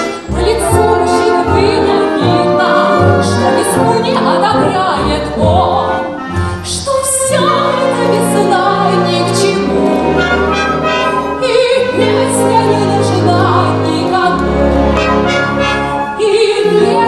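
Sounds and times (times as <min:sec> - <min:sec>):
orchestral accompaniment: 0:00.0 - 0:17.0
woman singing operatically: 0:00.3 - 0:10.2, 0:11.2 - 0:15.1, 0:16.1 - 0:17.0.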